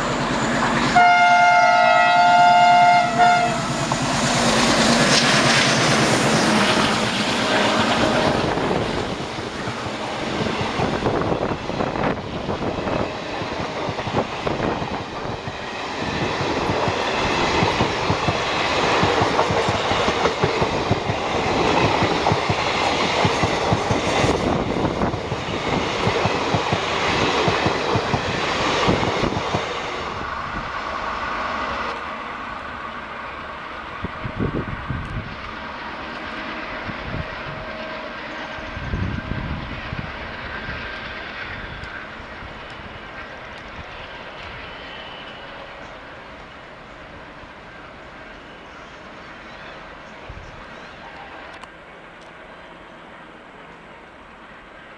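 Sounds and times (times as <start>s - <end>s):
diesel locomotive passing: 0.0s - 54.9s.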